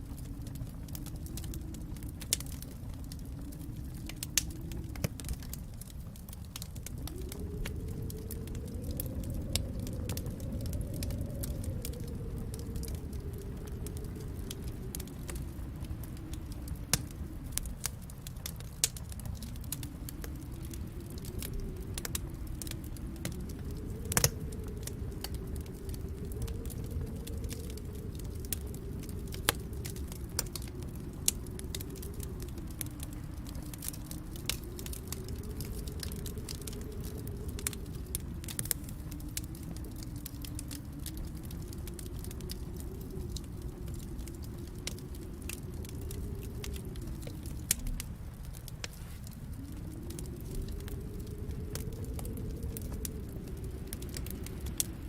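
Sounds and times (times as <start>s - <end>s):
low rumble: 0.0s - 55.0s
wood fire crackling and popping: 0.0s - 55.0s.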